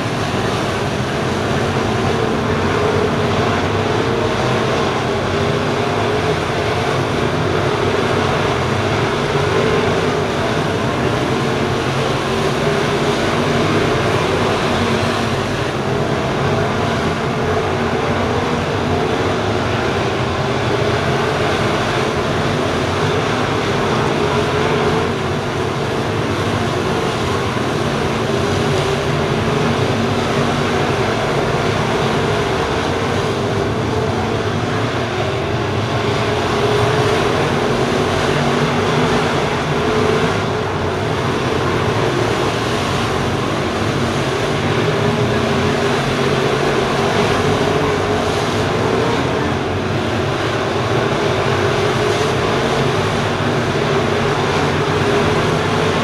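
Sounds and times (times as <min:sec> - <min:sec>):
race car engines: 0:00.0 - 0:56.0.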